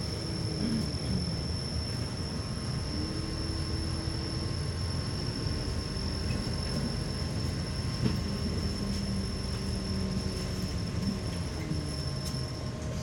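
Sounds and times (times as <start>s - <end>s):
bus engine and road rumble: 0.0s - 13.0s
faint high whine: 0.0s - 13.0s.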